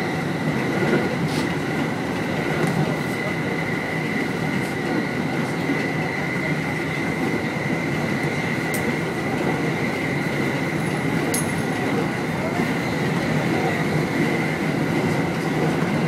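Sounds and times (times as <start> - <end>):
train running at speed: 0.0 - 16.0.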